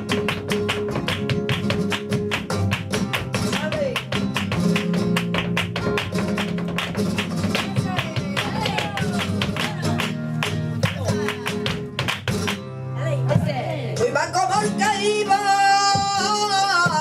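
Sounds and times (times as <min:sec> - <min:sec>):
flamenco guitar: 0:00.0 - 0:17.0
flamenco percussive strikes: 0:00.0 - 0:17.0.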